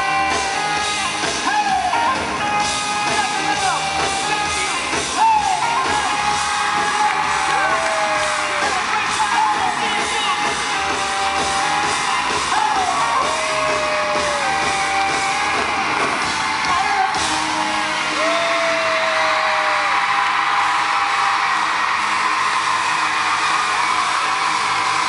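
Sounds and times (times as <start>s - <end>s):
live pop song over loud speakers: 0.0s - 25.0s
fans screaming: 3.2s - 25.0s.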